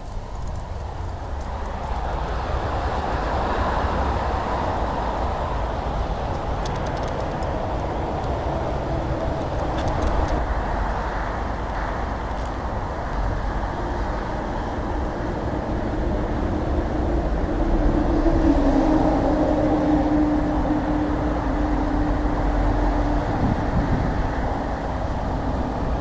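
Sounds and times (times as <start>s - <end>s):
motorway traffic rumble: 0.0s - 26.0s.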